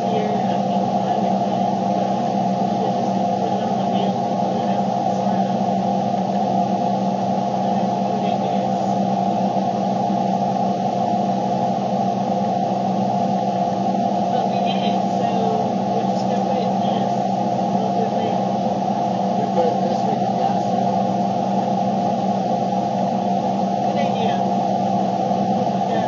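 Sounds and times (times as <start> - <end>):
vehicle cabin drone: 0.0 - 26.0.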